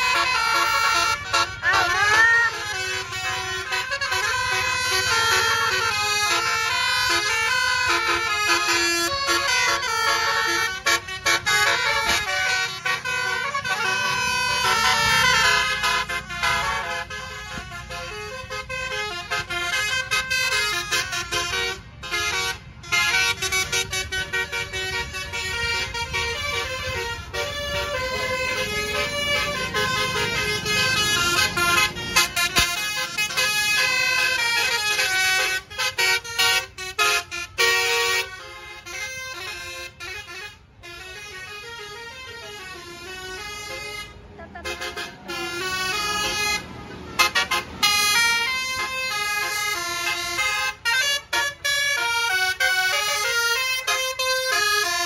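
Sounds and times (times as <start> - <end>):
bus engines rumbling: 0.0 - 55.0
multi-tone bus horns: 0.0 - 55.0.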